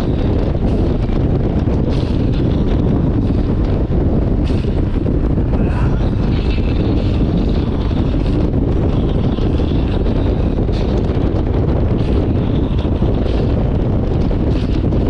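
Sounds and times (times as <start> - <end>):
motorcycle engine and road noise: 0.0 - 15.0
wind buffeting microphone: 0.0 - 15.0.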